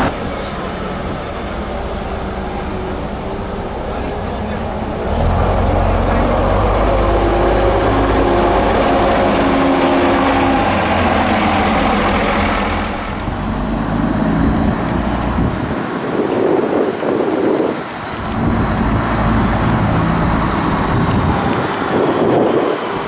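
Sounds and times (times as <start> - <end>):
diesel bus engine rumbling: 0.0 - 23.0.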